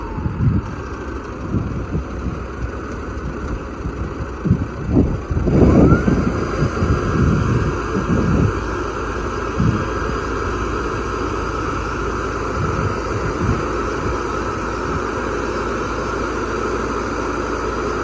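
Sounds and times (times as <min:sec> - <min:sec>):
wind buffeting microphone: 0:00.0 - 0:15.3
harvester engine revving: 0:00.0 - 0:18.0.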